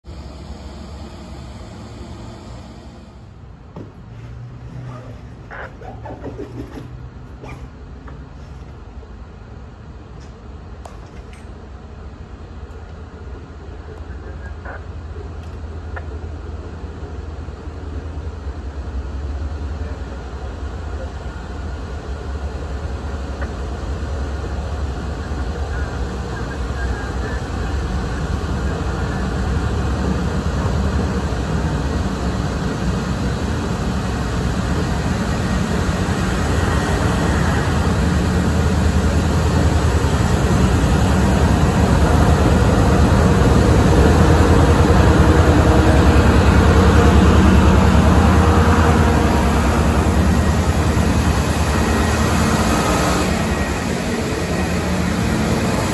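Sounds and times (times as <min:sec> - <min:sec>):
diesel locomotive engine rumble: 0:00.0 - 0:55.9
rail cars rolling by: 0:00.0 - 0:55.9.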